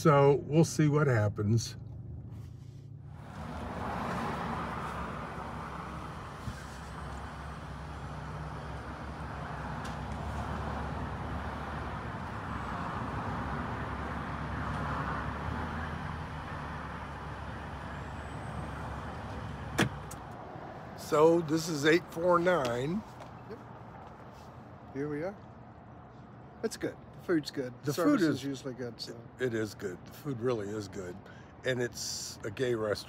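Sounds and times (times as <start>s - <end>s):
road and engine noise in car: 0.0s - 33.0s.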